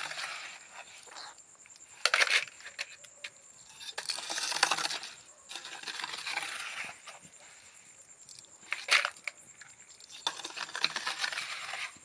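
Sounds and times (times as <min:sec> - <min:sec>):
scoop scraping wet mortar: 0:00.0 - 0:03.0, 0:03.6 - 0:12.0.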